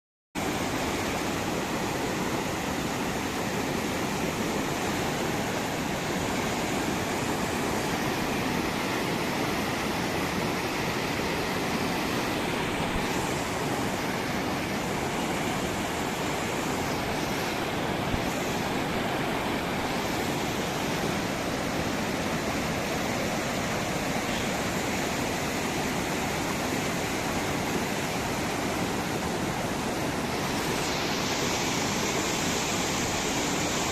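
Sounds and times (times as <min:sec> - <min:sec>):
river water rushing: 0:00.4 - 0:33.9.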